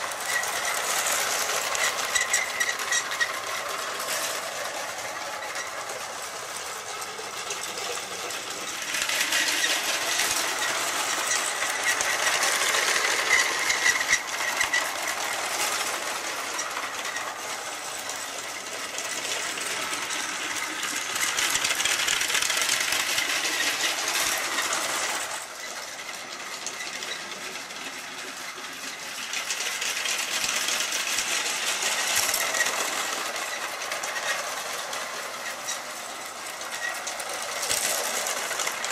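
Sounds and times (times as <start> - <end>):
toy train motor whirring and rattling: 0.0 - 38.9.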